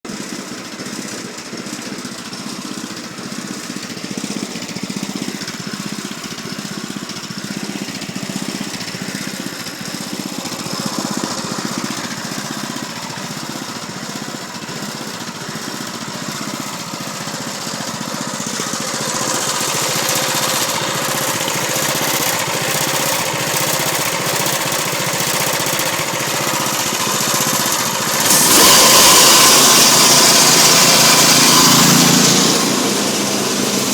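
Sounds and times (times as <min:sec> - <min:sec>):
snowblower engine running: 0:00.1 - 0:33.9.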